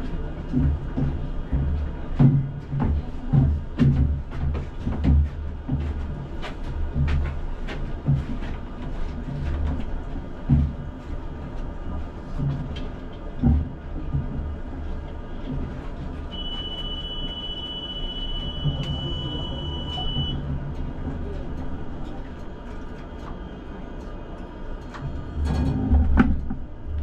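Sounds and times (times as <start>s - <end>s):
tram rumbling on rails: 0.0s - 27.0s.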